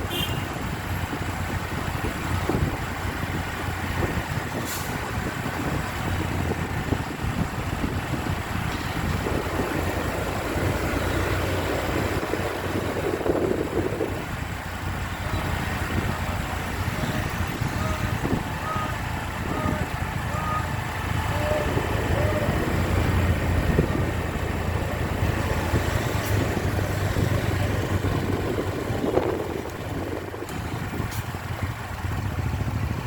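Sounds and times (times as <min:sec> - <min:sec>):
bus engine: 0:00.0 - 0:33.0
road noise: 0:00.0 - 0:33.0.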